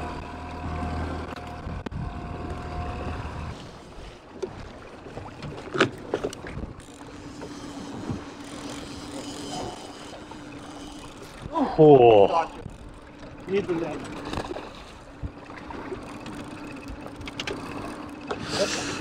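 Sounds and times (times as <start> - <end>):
boat motor humming: 0.0 - 19.0
wind: 0.0 - 19.0.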